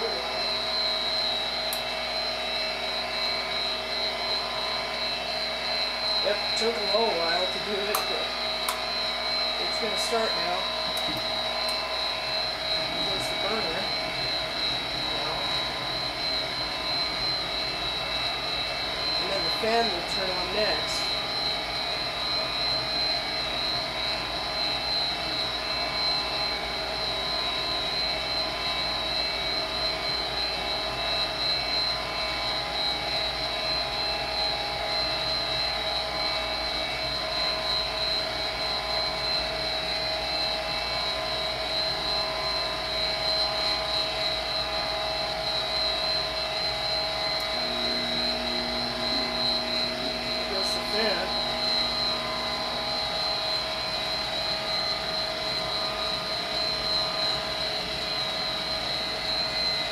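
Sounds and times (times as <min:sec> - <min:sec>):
blower fan low hum: 0:00.0 - 0:59.9
furnace inducer motor whining: 0:00.0 - 0:59.9.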